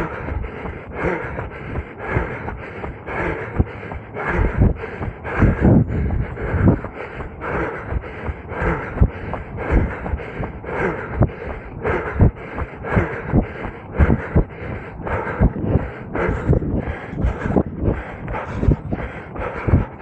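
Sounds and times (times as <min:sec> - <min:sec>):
runner breathing heavily: 0:00.0 - 0:20.0
running footfalls: 0:00.0 - 0:20.0.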